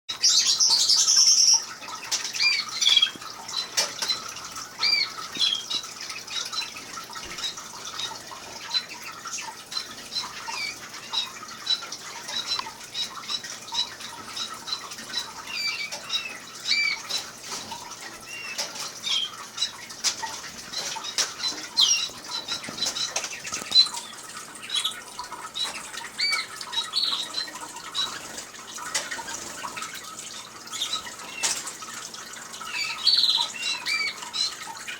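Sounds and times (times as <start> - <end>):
canaries and finches chirping: 0.1 - 34.9
water fountain trickling: 0.1 - 34.9.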